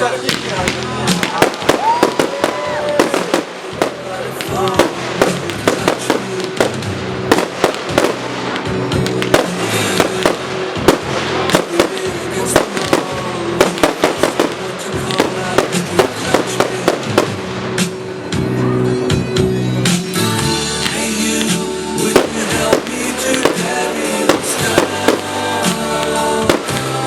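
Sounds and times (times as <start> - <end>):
fireworks bangs: 0.0 - 18.4, 19.9 - 27.0
background music: 0.0 - 27.0.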